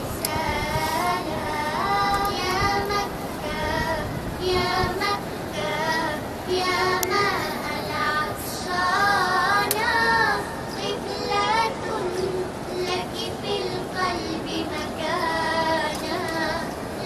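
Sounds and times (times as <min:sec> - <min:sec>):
steady background hiss: 0:00.0 - 0:17.0
child-like voice singing: 0:00.2 - 0:17.0.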